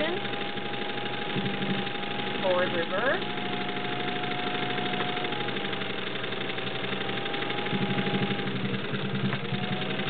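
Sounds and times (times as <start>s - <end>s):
sewing machine motor whine: 0.0s - 10.0s
stitching mechanism clatter: 0.0s - 10.0s.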